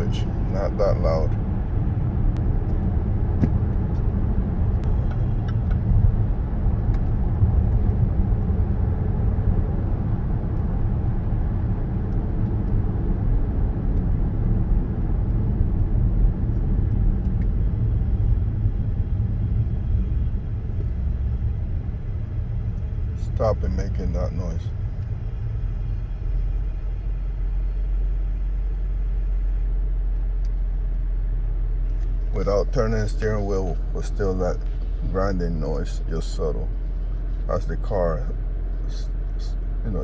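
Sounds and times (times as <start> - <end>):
road and drivetrain rumble: 0.0 - 40.0.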